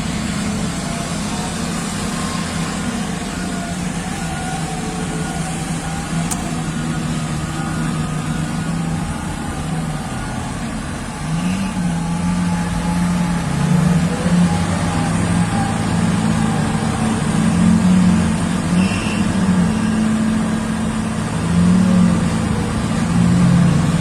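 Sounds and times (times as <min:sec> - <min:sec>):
diesel engine accelerating: 0:00.0 - 0:24.0.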